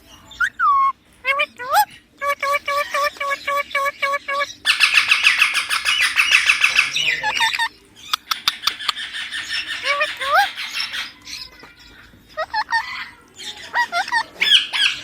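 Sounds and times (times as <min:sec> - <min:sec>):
parrot calling: 0:00.3 - 0:15.0
parrot harsh chattering: 0:01.3 - 0:15.0.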